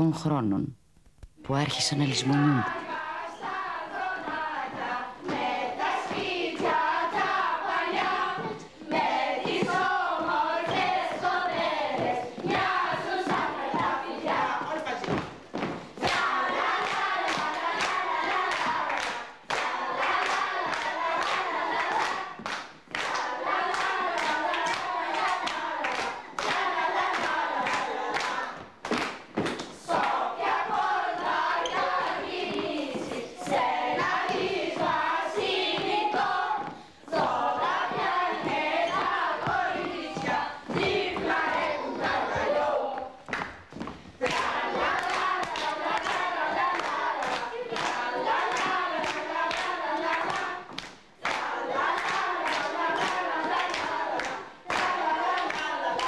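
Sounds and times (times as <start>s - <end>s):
children singing: 2.3s - 15.3s, 16.0s - 28.7s, 29.8s - 43.4s, 44.2s - 56.0s.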